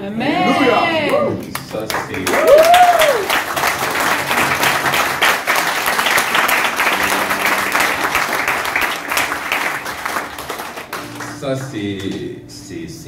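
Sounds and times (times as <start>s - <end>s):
congregation applauding: 1.0s - 12.2s.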